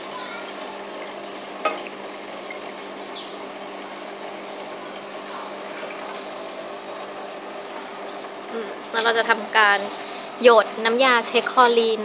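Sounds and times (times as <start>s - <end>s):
water flowing into flask: 0.0s - 10.4s
electric pump humming: 0.0s - 12.0s.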